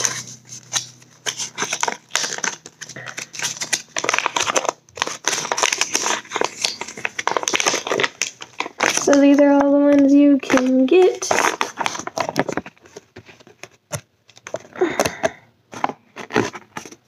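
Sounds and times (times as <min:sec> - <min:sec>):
paper crinkling: 0:00.0 - 0:17.0.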